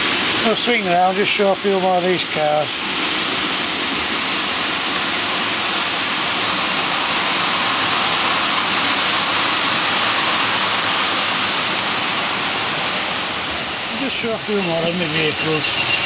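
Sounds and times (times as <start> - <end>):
model trains running on track: 0.0 - 16.0.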